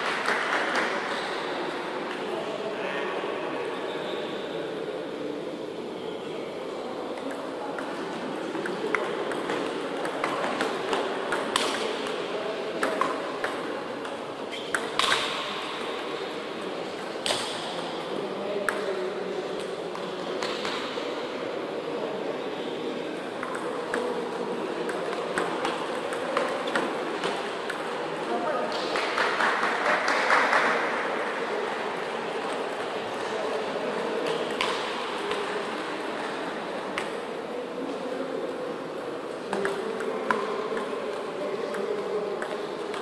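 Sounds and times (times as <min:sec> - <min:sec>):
murmur of a large hall: 0:00.0 - 0:43.0.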